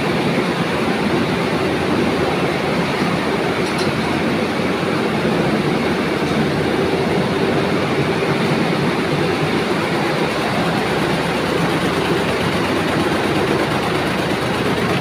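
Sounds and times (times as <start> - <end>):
constant hum: 0.0 - 15.0
spinning mill machinery din: 0.0 - 15.0.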